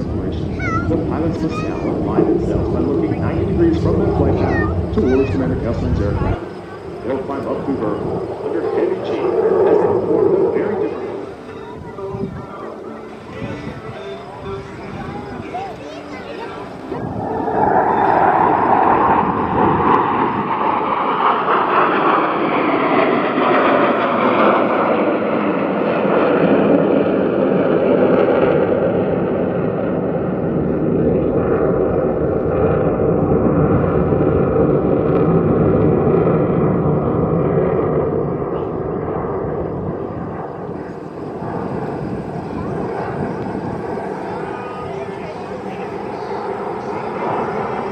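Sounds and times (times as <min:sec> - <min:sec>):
jet engine roar: 0:00.0 - 0:47.9.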